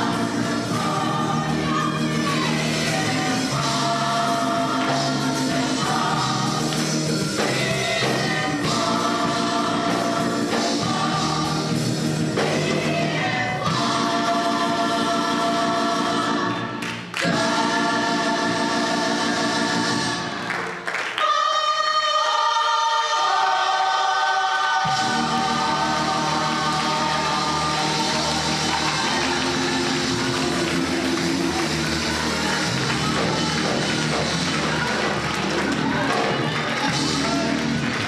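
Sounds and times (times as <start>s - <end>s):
instrumental accompaniment: 0.0s - 21.4s, 22.9s - 38.0s
gospel choir singing: 0.0s - 38.0s.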